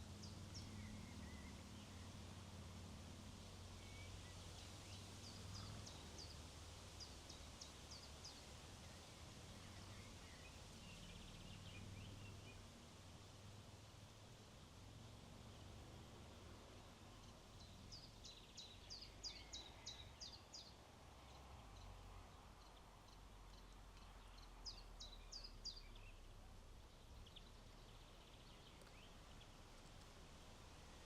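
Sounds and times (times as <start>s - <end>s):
faint low wind rumble: 0.0s - 31.0s.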